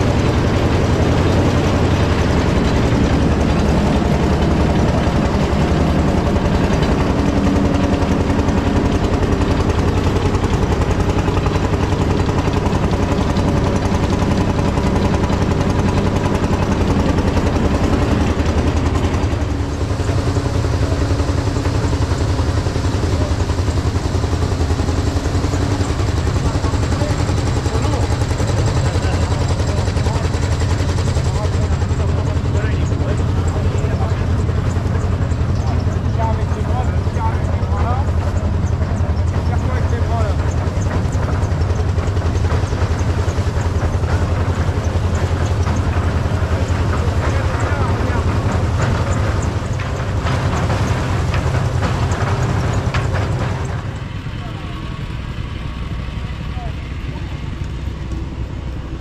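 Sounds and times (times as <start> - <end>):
threshing machine rumble: 0.0 - 59.0
tractor engine running: 0.0 - 59.0.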